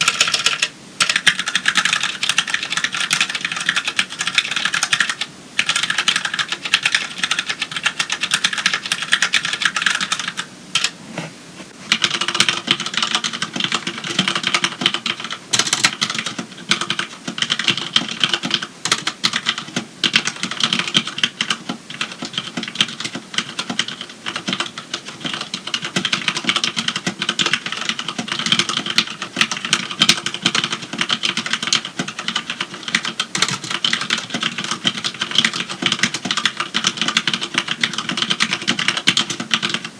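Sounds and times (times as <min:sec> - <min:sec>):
rapid mechanical keyboard typing: 0:00.0 - 0:11.0, 0:11.9 - 0:39.9.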